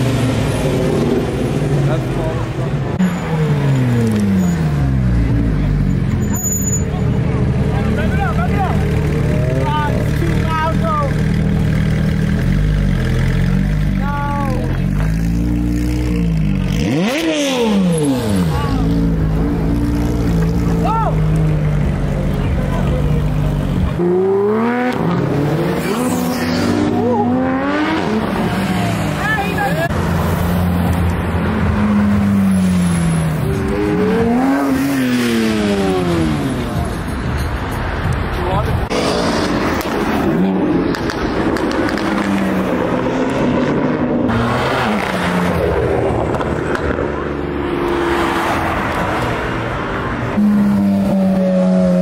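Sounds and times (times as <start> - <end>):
car engines running loudly: 0.0 - 52.0.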